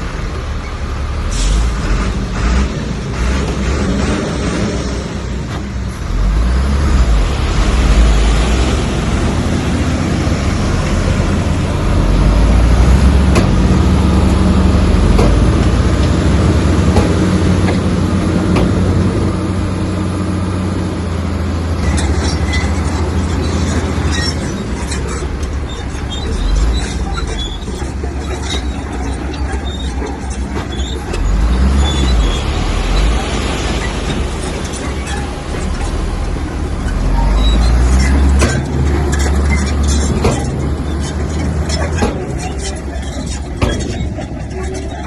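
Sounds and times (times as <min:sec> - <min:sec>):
bulldozer engine under load: 0:00.0 - 0:45.0.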